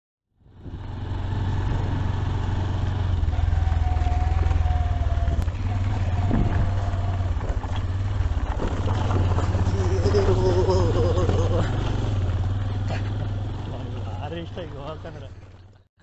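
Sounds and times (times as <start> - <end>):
motorcycle engine running: 0.3 - 15.9.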